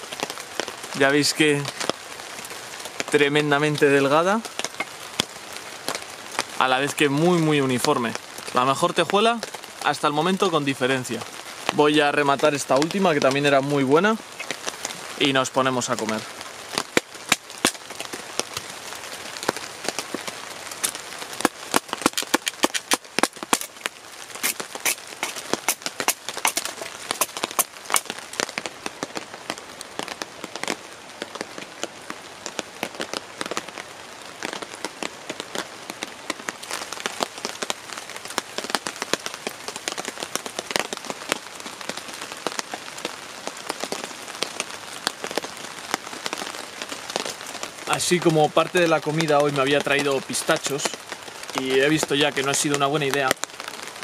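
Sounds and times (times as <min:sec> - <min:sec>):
rain hissing: 0:00.0 - 0:54.0
raindrops tapping on tarp: 0:00.0 - 0:54.0.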